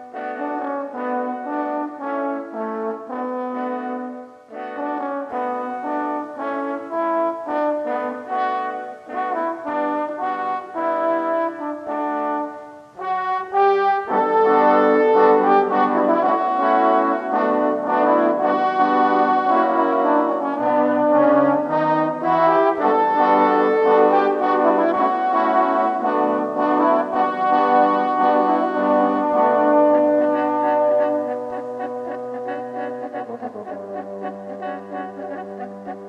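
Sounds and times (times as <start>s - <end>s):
french horn ensemble playing: 0.0s - 36.0s.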